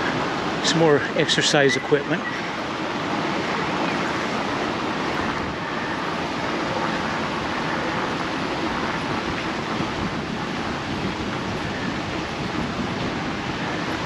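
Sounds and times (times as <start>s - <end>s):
wind on microphone: 1.8s - 14.0s.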